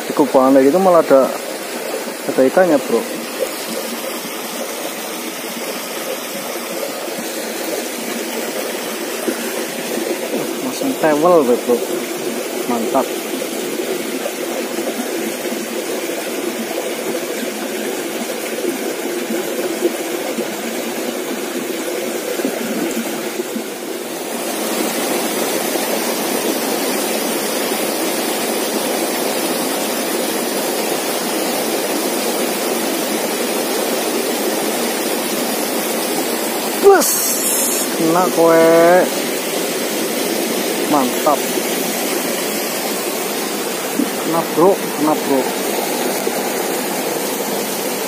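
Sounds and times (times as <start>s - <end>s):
stream rushing over stones: 0.0s - 48.0s.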